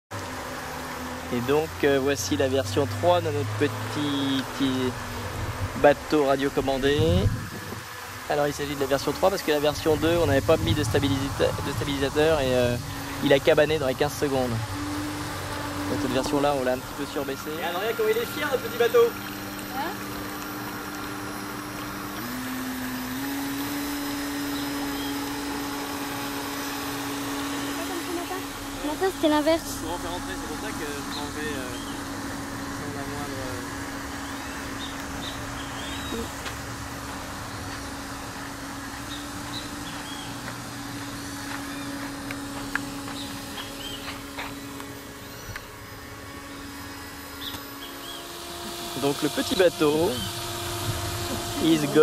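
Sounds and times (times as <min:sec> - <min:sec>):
small motor whining: 0:00.2 - 0:52.0
birds chirping: 0:03.7 - 0:52.0.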